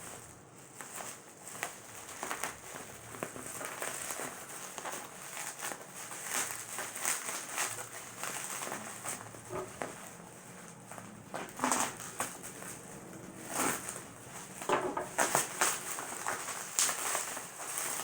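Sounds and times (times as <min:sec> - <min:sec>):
cardboard parcel rustling and tearing: 0:00.0 - 0:18.0.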